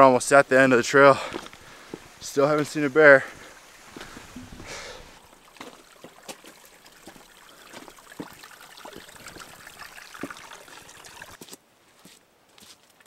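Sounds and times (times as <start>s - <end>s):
water trickling down rock: 0.3s - 11.4s.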